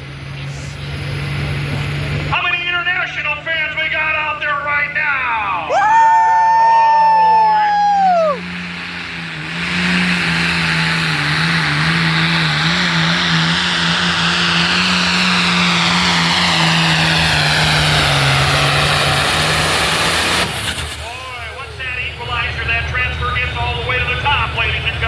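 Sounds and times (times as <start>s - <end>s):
tractor diesel engine at full power: 0.0s - 25.0s.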